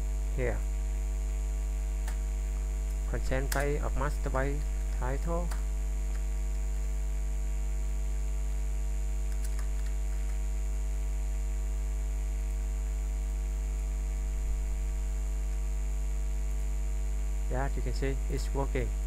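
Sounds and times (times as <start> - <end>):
electrical mains hum: 0.0 - 19.0
faint high whine: 0.0 - 19.0.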